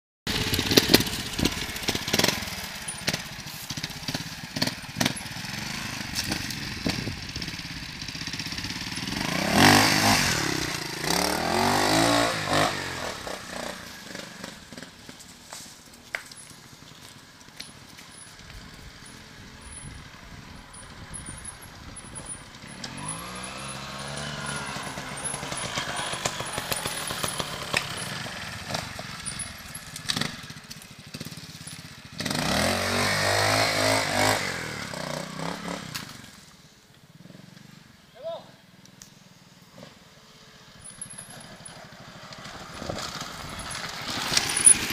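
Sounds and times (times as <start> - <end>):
motorcycle engine revving: 0.3 - 38.0, 39.5 - 44.9.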